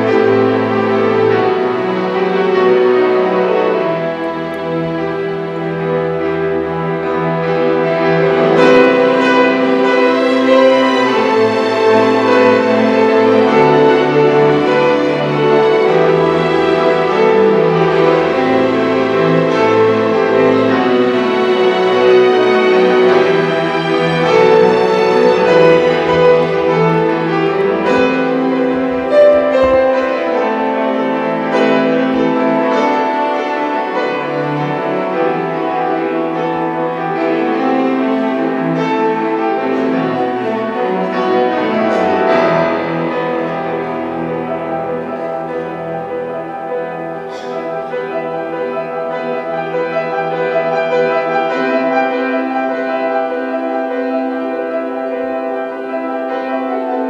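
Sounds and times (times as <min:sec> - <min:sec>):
piano playing: 0:00.0 - 0:57.0
strings holding long chords: 0:00.0 - 0:57.0.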